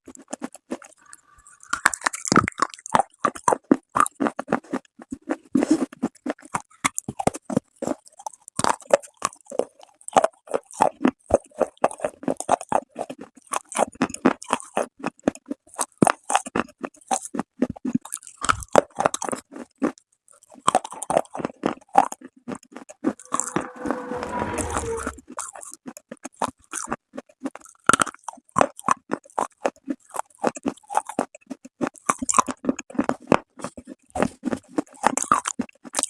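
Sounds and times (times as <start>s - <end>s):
chewing hard crunchy clay: 0.0s - 23.3s, 25.3s - 36.0s.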